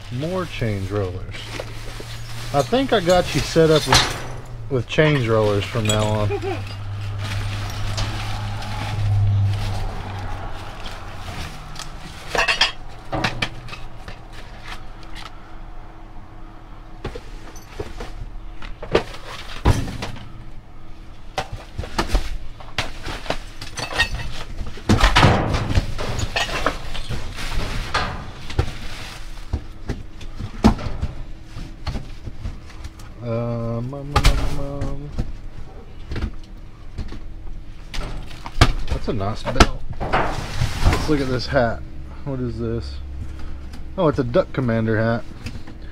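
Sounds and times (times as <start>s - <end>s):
trash clattering and rustling: 0.0s - 15.5s, 16.9s - 33.2s, 34.1s - 42.1s.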